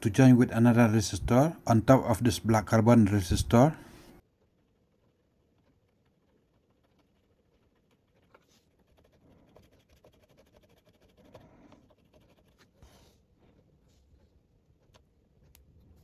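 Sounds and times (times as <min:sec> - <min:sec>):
faint scratching: 0:00.1 - 0:16.0.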